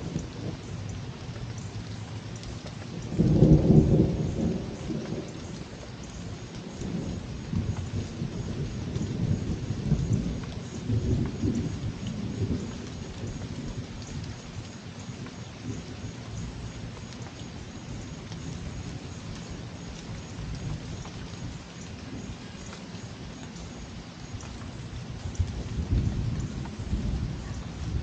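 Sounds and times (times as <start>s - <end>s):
thunder rumbling: 0.0s - 1.9s, 2.9s - 14.5s, 15.1s - 28.0s
rain hissing: 0.0s - 28.0s.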